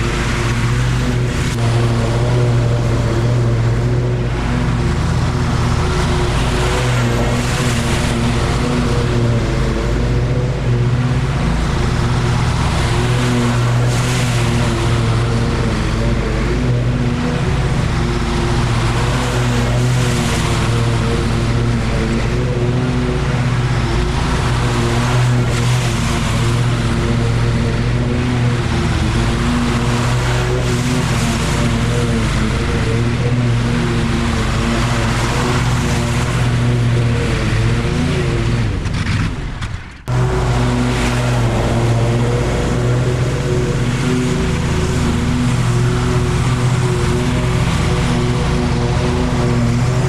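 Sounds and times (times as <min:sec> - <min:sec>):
lawn mower engine running: 0:00.0 - 0:50.0.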